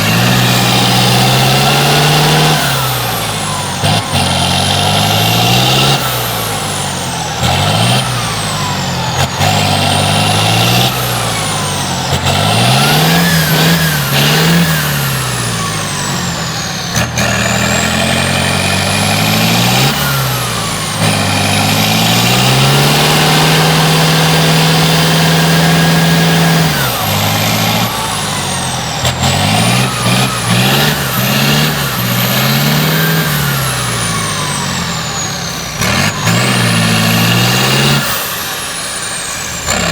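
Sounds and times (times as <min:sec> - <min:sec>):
truck diesel engine revving: 0:00.0 - 0:39.9.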